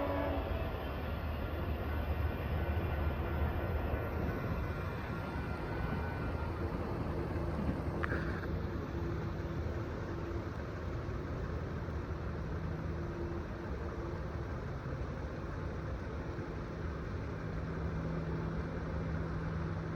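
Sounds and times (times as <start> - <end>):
train rolling on rails: 0.0 - 19.9.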